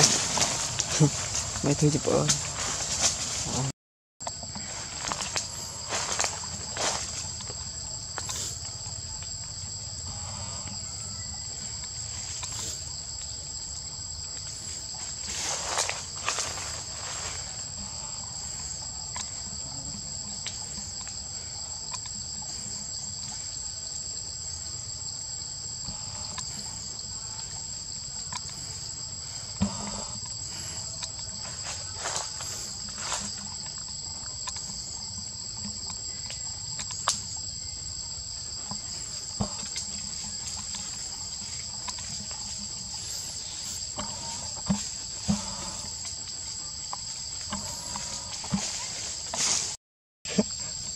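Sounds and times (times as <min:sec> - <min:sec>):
insect chorus buzzing: 0:00.0 - 0:50.9.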